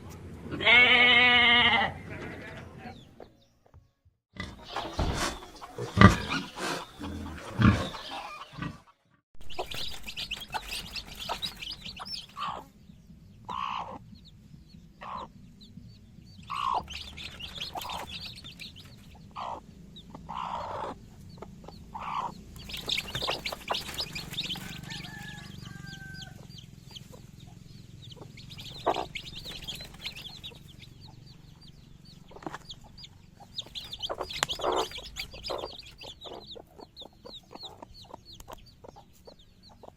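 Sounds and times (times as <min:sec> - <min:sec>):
hens clucking: 0:04.4 - 0:12.8, 0:13.4 - 0:14.1, 0:15.0 - 0:15.5, 0:16.3 - 0:39.9.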